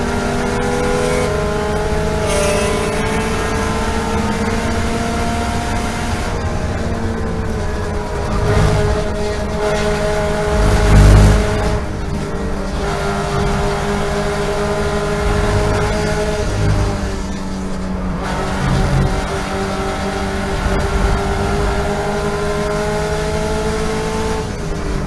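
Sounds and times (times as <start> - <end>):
race car engine at high revs: 0.0 - 25.0.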